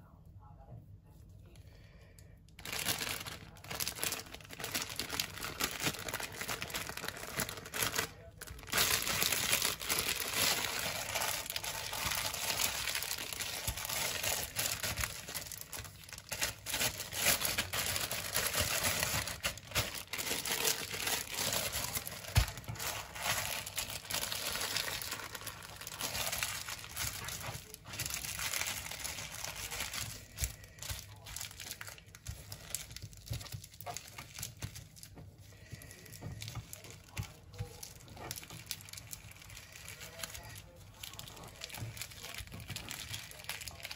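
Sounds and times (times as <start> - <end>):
plastic wrap crinkling: 2.5 - 43.9.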